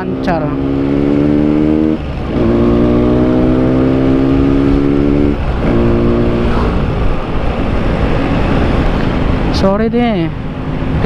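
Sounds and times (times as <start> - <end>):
motorcycle engine running: 0.0 - 11.0
wind on microphone: 1.9 - 11.0.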